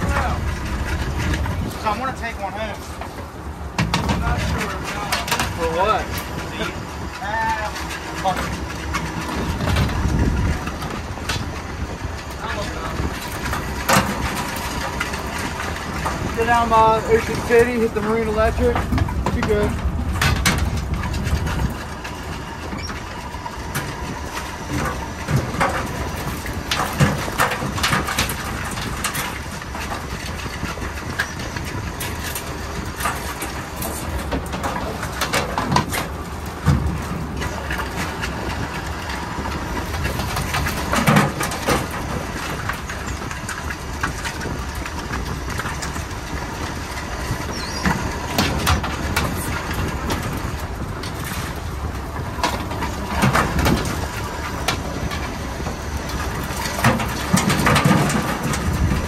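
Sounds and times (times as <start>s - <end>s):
boat engine idling: 0.0s - 59.0s
wire crab pots clanking: 0.0s - 59.0s.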